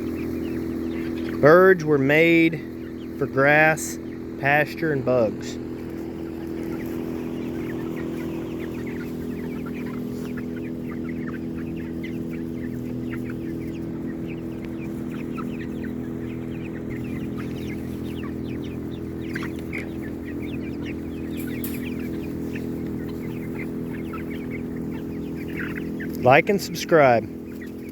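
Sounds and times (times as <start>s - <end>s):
chickens clucking: 0.0s - 27.9s
low mechanical hum: 0.0s - 27.9s.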